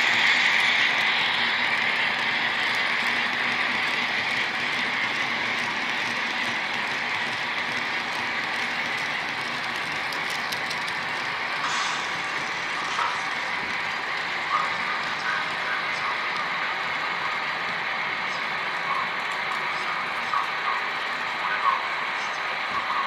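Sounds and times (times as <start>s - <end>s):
model train motor whirring: 0.0s - 23.0s.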